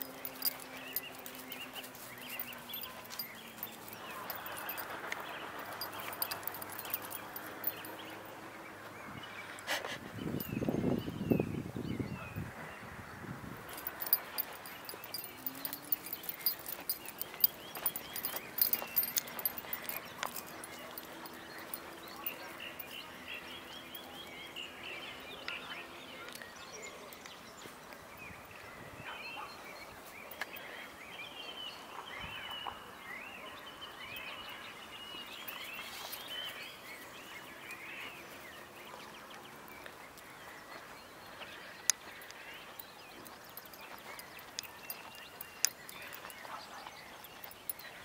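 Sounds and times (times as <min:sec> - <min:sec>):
birds chirping and twittering: 0:00.0 - 0:12.8, 0:13.6 - 0:48.0.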